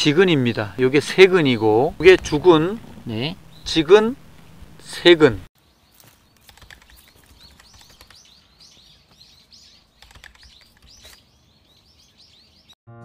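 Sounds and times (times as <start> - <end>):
songbird chirping: 0.0 - 12.8.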